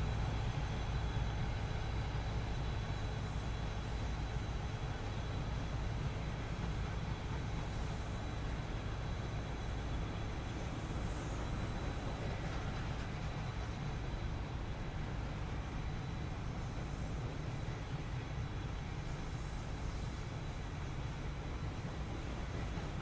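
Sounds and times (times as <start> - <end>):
freight train rolling by: 0.0 - 23.0.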